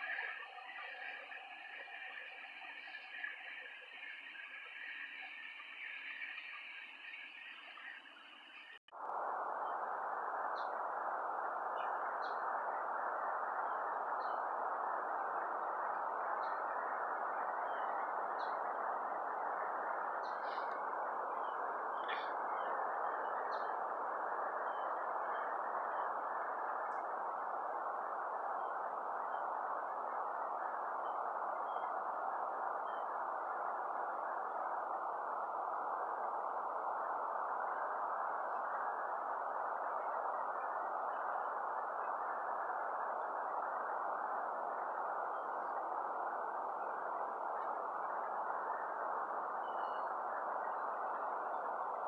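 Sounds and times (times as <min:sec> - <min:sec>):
steady rushing noise: 0:00.0 - 0:52.0.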